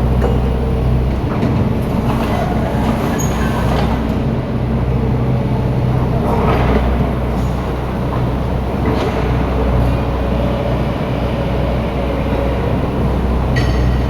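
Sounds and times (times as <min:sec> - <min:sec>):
diesel machinery droning: 0:00.0 - 0:14.0.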